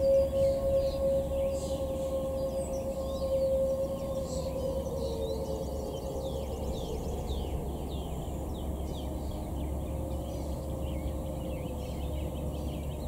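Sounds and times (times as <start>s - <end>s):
birds chirping: 0.0s - 13.0s
distant siren winding down: 0.0s - 13.0s.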